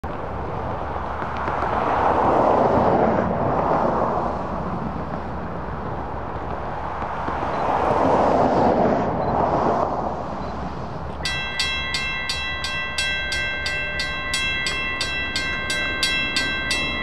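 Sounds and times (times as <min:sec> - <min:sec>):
passing car tyre and road noise: 0:00.0 - 0:17.0.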